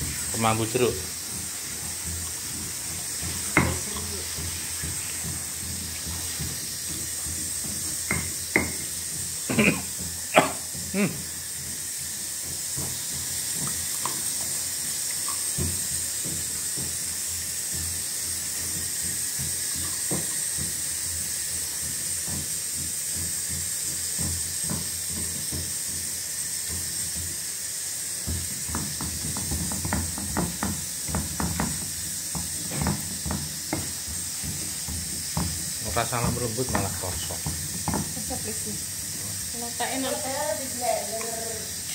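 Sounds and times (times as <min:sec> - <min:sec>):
pestle grinding in stone mortar: 0:00.0 - 0:39.8
pressure cooker hissing steam: 0:00.0 - 0:41.9.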